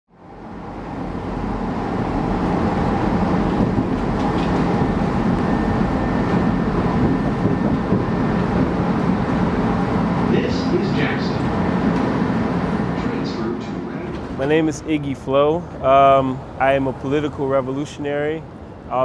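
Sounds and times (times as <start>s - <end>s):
subway train rumbling: 0.1s - 19.0s.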